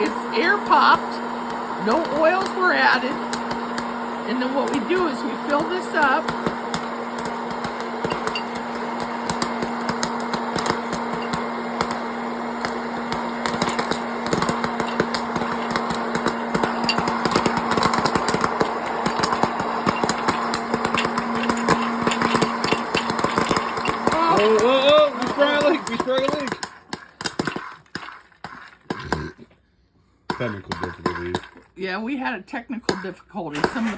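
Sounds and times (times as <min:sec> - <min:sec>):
popcorn kernels popping: 0:00.0 - 0:29.5, 0:30.3 - 0:31.8, 0:32.8 - 0:33.9
popcorn popper motor humming: 0:00.0 - 0:33.9.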